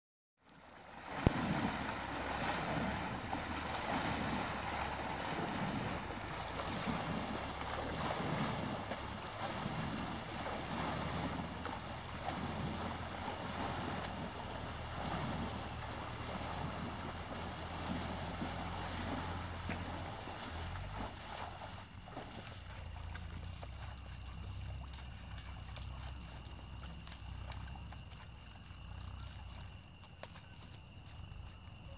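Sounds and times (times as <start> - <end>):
elephant splashing through water: 0.4 - 31.9.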